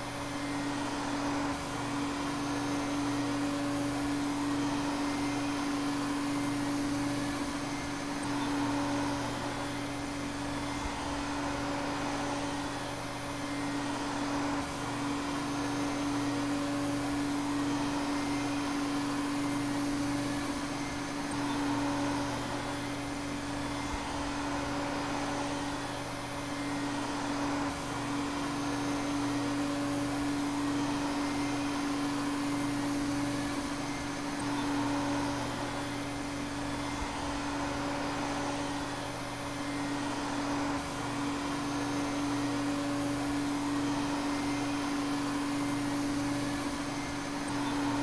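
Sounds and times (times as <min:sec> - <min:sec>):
vacuum cleaner motor running: 0:00.0 - 0:48.0.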